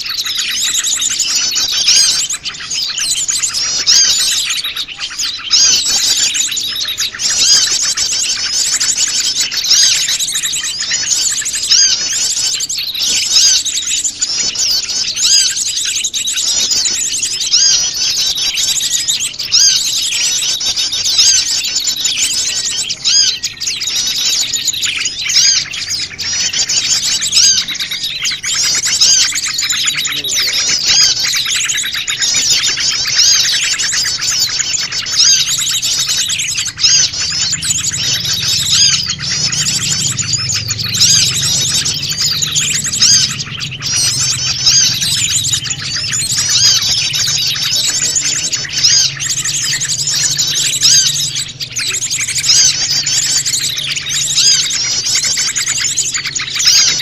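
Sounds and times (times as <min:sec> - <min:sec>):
chorus of small birds chirping: 0:00.0 - 0:57.0.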